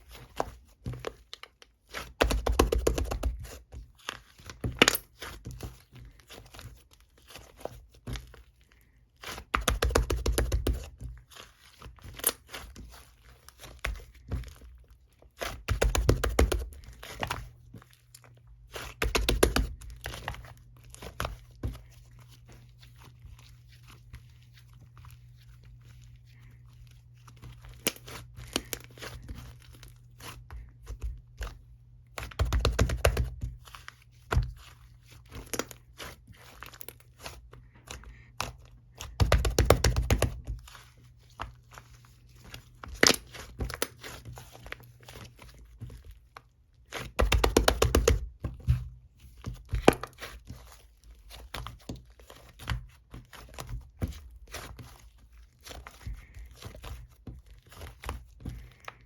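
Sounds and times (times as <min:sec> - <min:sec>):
crinkling and crunching: 0:03.2 - 0:09.6, 0:10.6 - 0:59.0.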